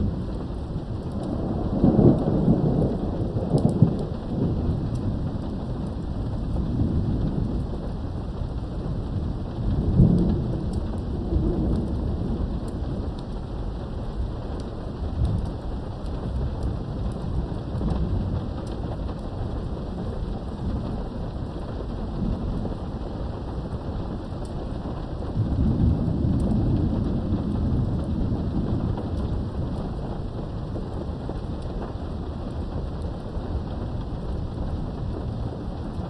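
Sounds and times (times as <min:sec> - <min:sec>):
steady rain: 0:00.0 - 0:36.0
thunder rumbling: 0:00.0 - 0:36.0.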